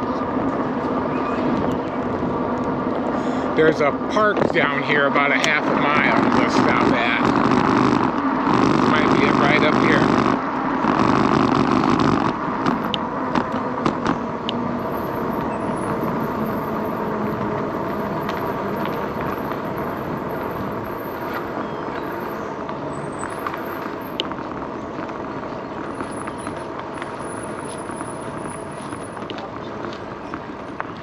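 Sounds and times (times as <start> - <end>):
electric bike riding noise: 0.0 - 31.0.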